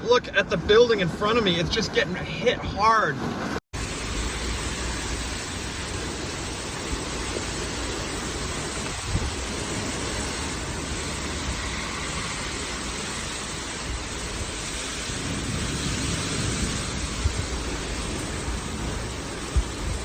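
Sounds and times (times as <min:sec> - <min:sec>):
storm wind: 0:00.0 - 0:20.0
wind buffeting microphone: 0:00.0 - 0:20.0
heavy rain: 0:03.2 - 0:20.0.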